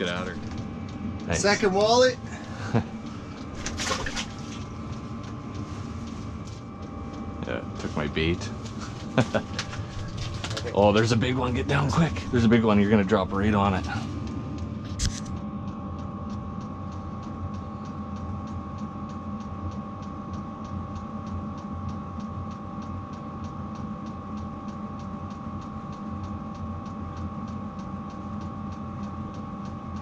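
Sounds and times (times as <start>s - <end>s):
heater fan hum: 0.0s - 30.0s.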